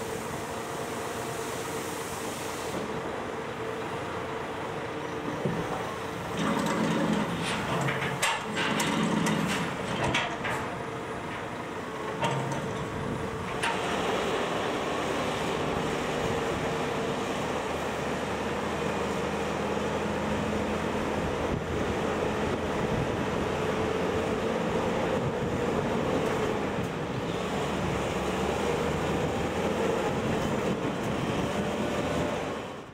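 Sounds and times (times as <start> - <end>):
diesel engines running: 0.0 - 32.9
truck driving off: 3.1 - 32.9.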